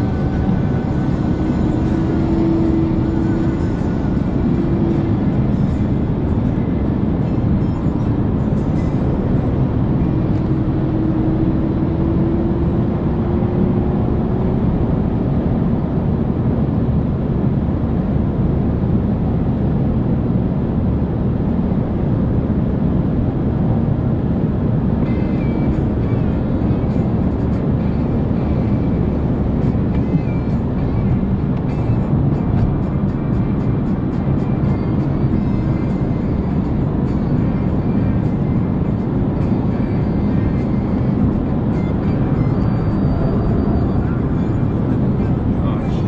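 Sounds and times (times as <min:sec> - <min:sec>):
car engine drone: 0:00.0 - 0:46.0
road noise: 0:00.0 - 0:46.0.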